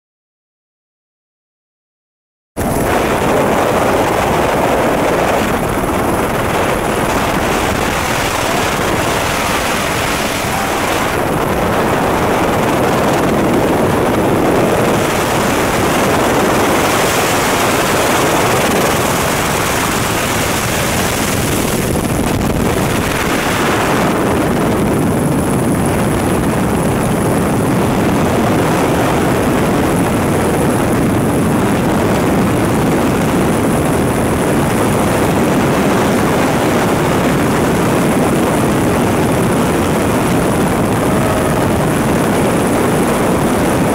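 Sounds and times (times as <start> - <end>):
helicopter engine and rotor: 2.6 - 43.9.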